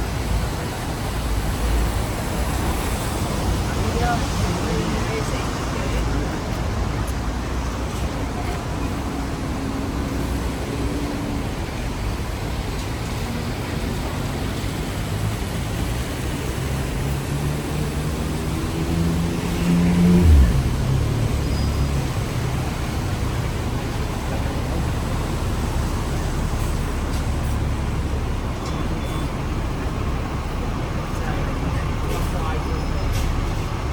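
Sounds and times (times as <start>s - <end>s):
traffic noise: 0.0s - 33.9s
tram rumbling: 0.0s - 33.9s.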